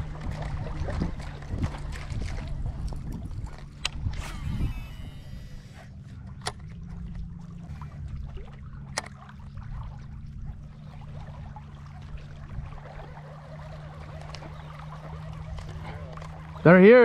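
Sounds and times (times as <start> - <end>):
steady low hum: 0.0 - 16.7
lapping water: 0.0 - 17.0.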